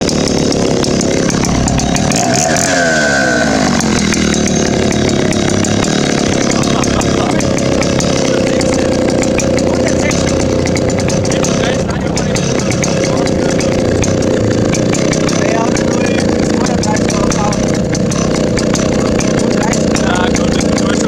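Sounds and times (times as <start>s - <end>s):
chainsaw running: 0.0s - 21.0s.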